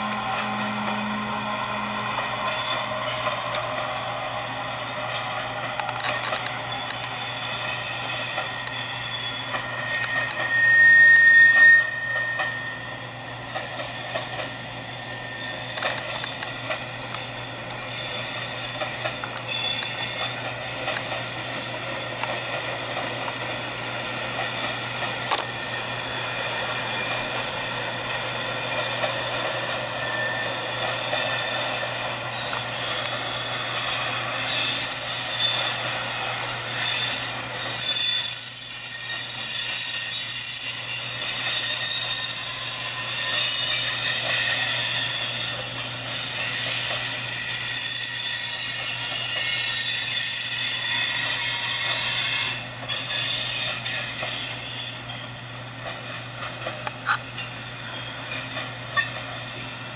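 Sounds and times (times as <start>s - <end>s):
wheels squealing on rails: 0.0s - 59.9s.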